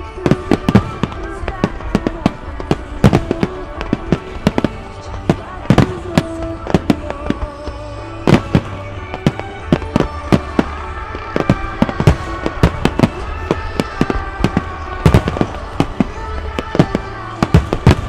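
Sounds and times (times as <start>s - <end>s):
music from loudspeakers: 0.0s - 18.0s.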